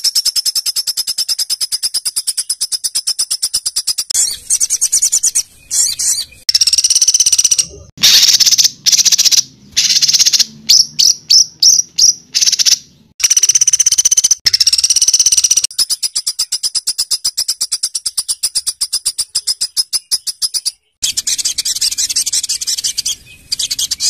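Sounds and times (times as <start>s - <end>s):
songbird rapid trills: 0.0s - 16.9s, 21.0s - 24.0s.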